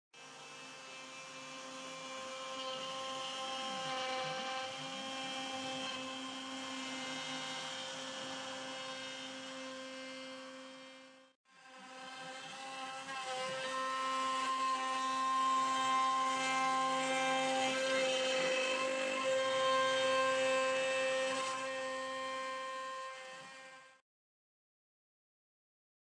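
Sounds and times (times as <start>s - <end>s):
end mill cutting wood: 0.2s - 24.0s
router spindle whining: 0.2s - 24.0s.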